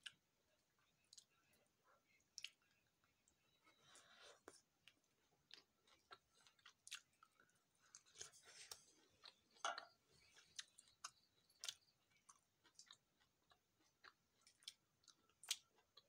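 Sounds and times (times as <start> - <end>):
close-up chewing: 0.0 - 16.0.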